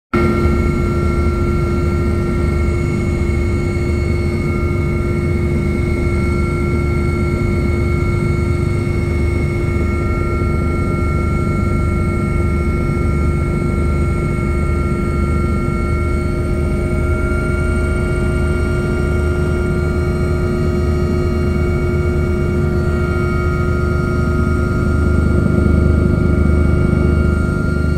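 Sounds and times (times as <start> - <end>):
helicopter rotor beat: 0.2 - 27.9
helicopter turbine whine: 0.2 - 27.9.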